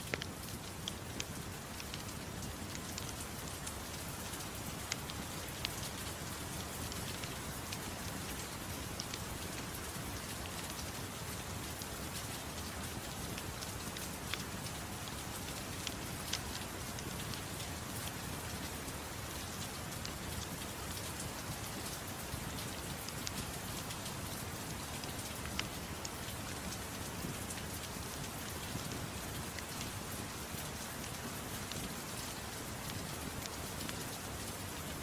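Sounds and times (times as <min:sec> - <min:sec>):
sharp ticks and crackles: 0:00.0 - 0:35.0
soft rain hissing: 0:00.0 - 0:35.0.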